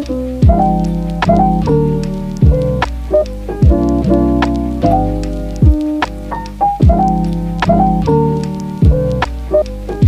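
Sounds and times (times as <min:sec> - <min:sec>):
steady beat: 0:00.0 - 0:10.0
sustained piano chords: 0:00.0 - 0:10.0.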